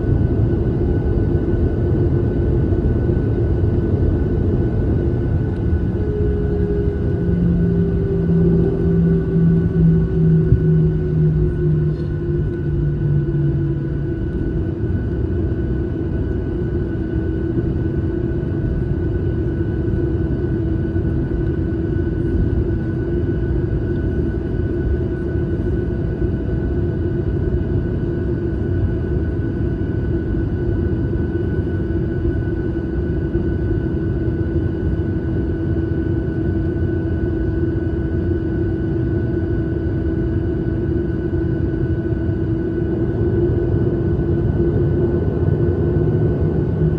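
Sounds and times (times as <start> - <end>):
airliner cabin engine rumble: 0.0 - 46.9
constant hum: 0.0 - 46.9.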